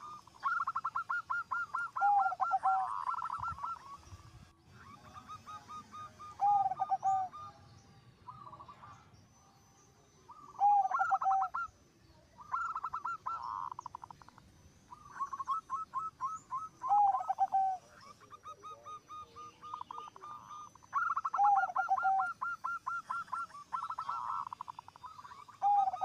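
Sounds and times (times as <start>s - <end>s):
doves cooing: 0.0s - 9.1s, 10.2s - 11.8s, 12.4s - 26.0s.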